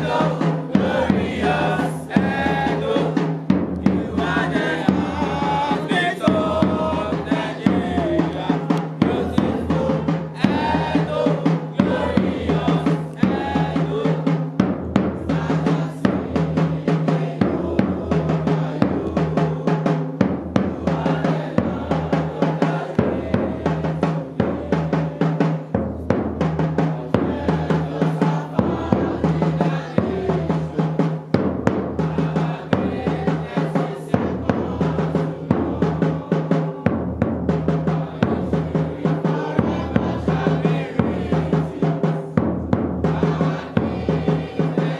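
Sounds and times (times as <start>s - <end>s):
drums playing a driving beat: 0.0s - 44.9s
voices singing: 0.0s - 44.9s.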